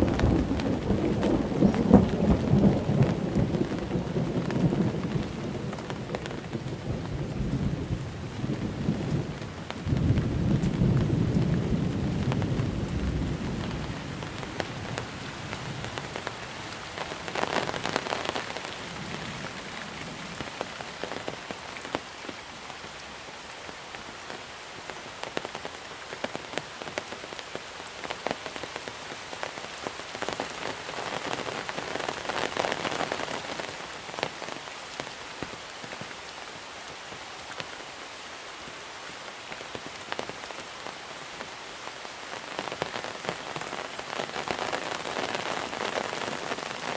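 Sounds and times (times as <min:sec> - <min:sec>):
heavy rain on a surface: 0:00.0 - 0:46.9.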